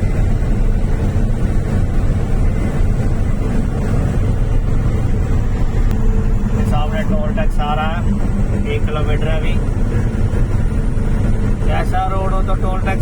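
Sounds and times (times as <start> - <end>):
road noise: 0.0 - 13.0
truck engine running: 0.0 - 13.0.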